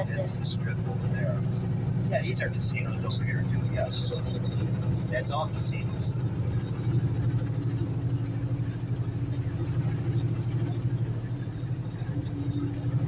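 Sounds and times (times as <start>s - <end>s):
road noise: 0.0s - 13.0s
truck engine droning: 0.0s - 13.0s.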